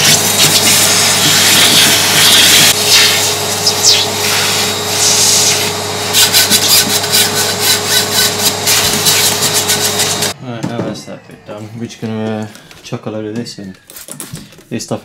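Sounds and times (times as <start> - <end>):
vacuum cleaner running: 0.0 - 12.7.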